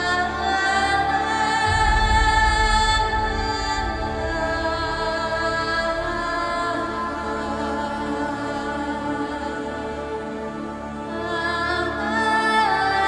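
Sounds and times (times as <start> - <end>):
slow ambient music: 0.0 - 13.0.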